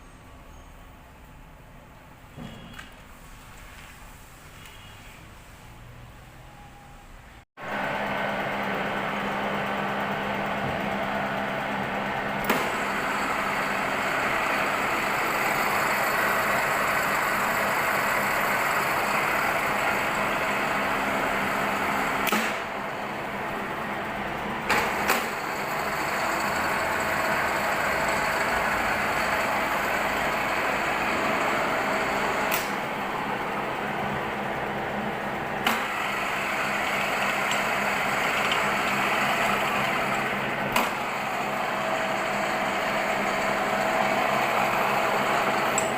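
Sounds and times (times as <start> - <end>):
milling machine humming: 7.6 - 45.9.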